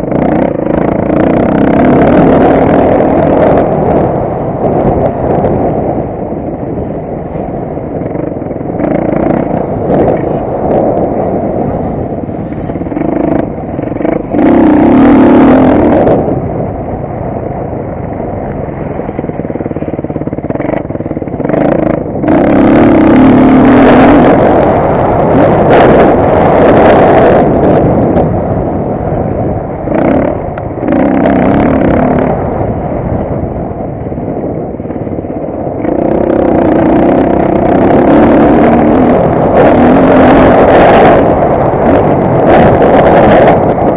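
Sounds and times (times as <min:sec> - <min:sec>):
motocross bike engine revving: 0:00.0 - 0:05.7, 0:07.3 - 0:16.5, 0:18.6 - 0:28.3, 0:29.4 - 0:32.5, 0:35.7 - 0:43.9.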